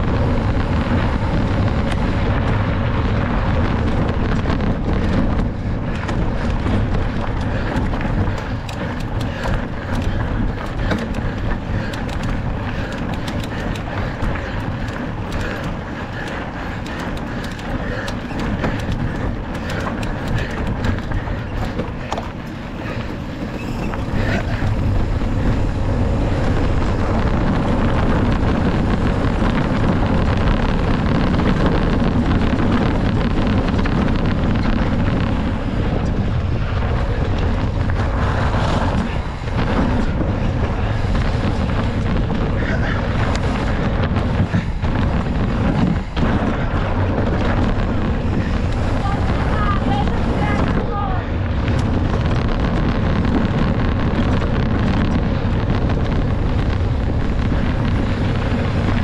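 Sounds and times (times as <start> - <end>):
bike rattling over rough trail: 0.0 - 59.0
wind rushing over microphone: 0.0 - 59.0.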